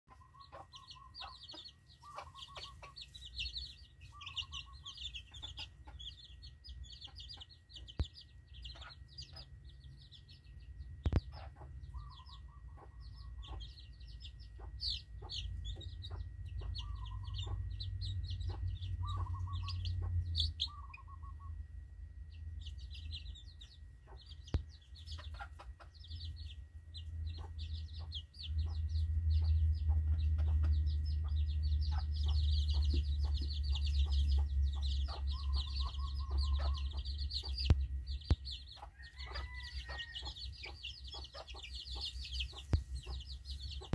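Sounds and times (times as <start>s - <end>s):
hen clucking: 0.1s - 10.3s, 11.0s - 21.6s, 22.9s - 43.9s
chicks peeping: 0.1s - 21.6s, 22.3s - 43.9s
low rumble: 2.6s - 38.8s.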